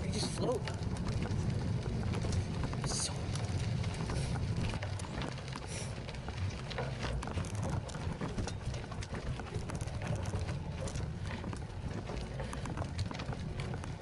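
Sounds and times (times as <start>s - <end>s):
bike clicks and rattles: 0.0s - 14.0s
bike tyres crunching on gravel: 0.0s - 14.0s
wind rumble on microphone: 0.0s - 14.0s.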